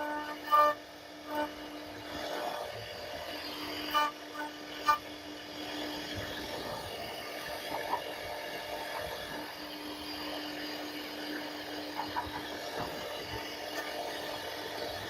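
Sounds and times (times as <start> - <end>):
cnc router cutting wood: 0.0 - 15.0.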